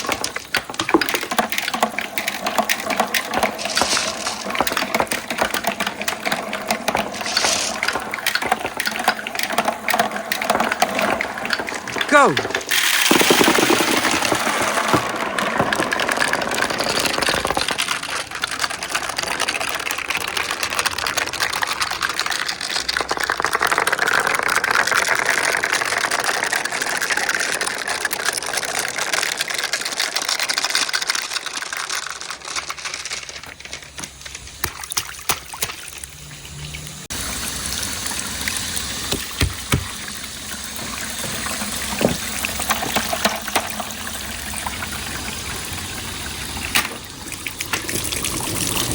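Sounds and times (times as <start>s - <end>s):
marble rolling on plastic track: 0.0s - 35.8s, 36.5s - 48.9s
water rushing through plastic run: 0.0s - 48.9s.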